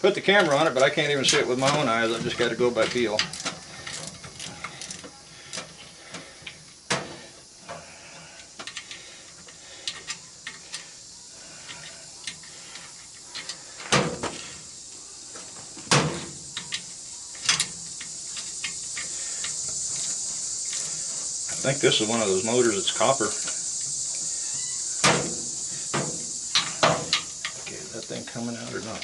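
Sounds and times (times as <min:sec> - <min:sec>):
crickets trilling: 0:00.0 - 0:29.0
ratchet clicks and metallic knocks: 0:00.2 - 0:07.1, 0:07.7 - 0:14.1, 0:16.1 - 0:29.0.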